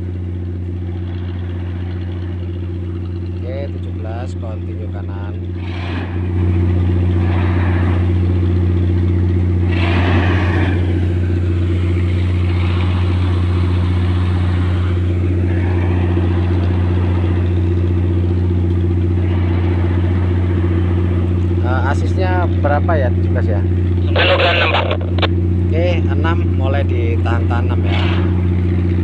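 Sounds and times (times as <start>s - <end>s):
tugboat diesel engine drone: 0.0s - 29.0s.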